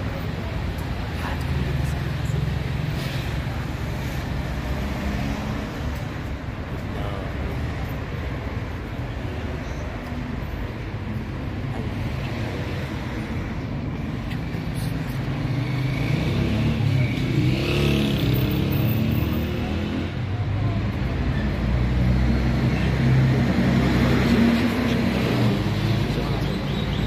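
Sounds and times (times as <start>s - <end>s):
vehicle engines running: 0.0s - 27.0s.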